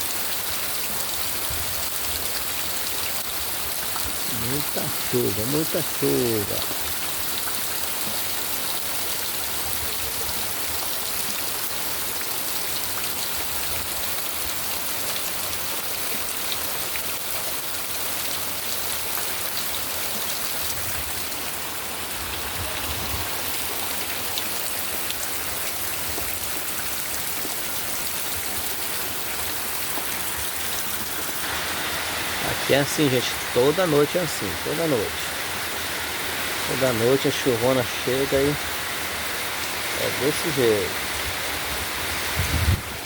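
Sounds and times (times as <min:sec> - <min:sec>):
heavy rain: 0:00.0 - 0:43.0.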